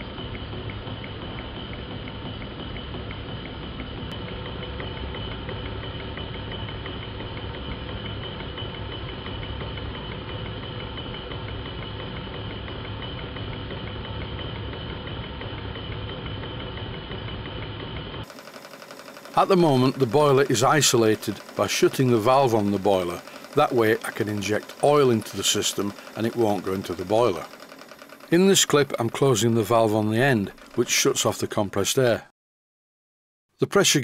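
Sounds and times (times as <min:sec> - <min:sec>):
model steam engines ticking: 0:00.4 - 0:32.2.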